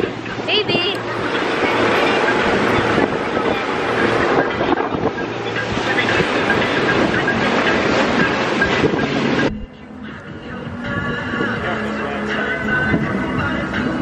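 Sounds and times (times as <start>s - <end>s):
boat motor drone: 0.0s - 14.0s
water rushing along hull: 0.0s - 14.0s
wind buffeting microphone: 0.0s - 14.0s.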